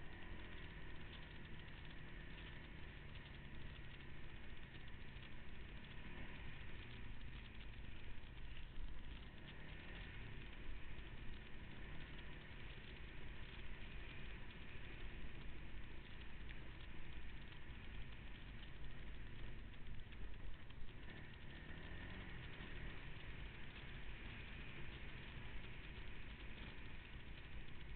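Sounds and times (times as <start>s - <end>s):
off-road vehicle engine rumbling: 0.0s - 27.9s.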